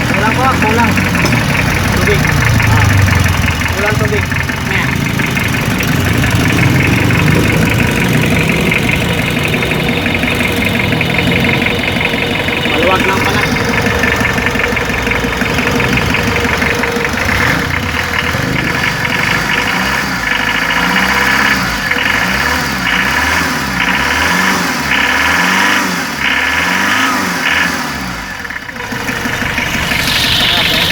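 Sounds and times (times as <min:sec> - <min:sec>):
diesel engine idling with knock: 0:00.0 - 0:30.9
regular engine pulsing: 0:00.0 - 0:30.9.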